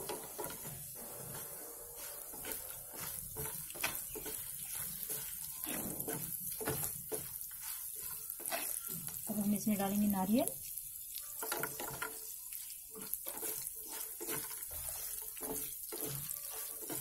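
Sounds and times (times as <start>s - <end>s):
spatula scraping and tapping pan: 0.0s - 17.0s
spices sizzling in oil: 0.0s - 17.0s.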